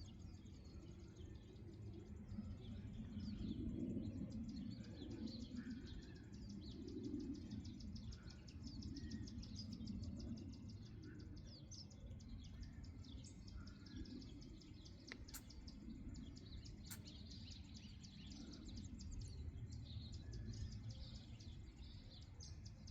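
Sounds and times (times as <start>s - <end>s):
birds chirping: 4.4s - 22.8s.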